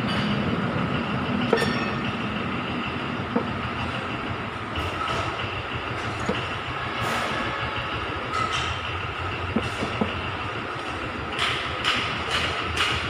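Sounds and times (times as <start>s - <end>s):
machine running with faint whine: 0.0s - 13.0s.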